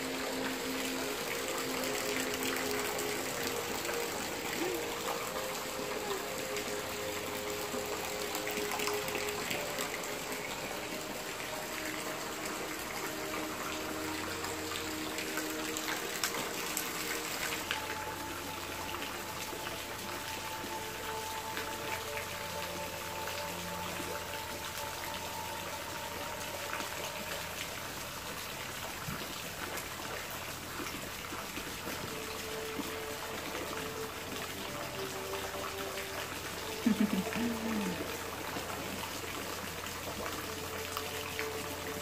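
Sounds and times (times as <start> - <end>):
rain falling: 0.0 - 42.0
soft background music: 0.0 - 42.0.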